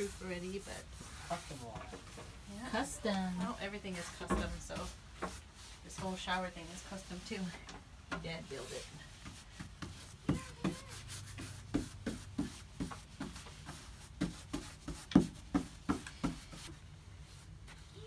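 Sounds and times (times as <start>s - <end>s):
light knocks and rubbing on wood: 0.0s - 16.8s.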